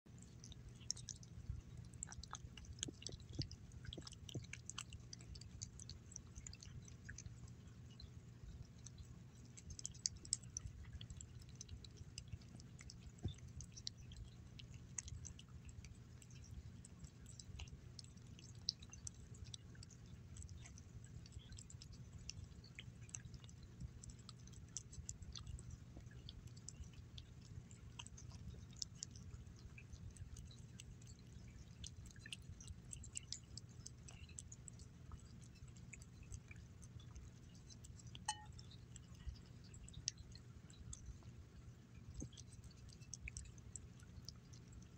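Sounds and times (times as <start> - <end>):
cat chewing and licking: 0.1 - 44.9.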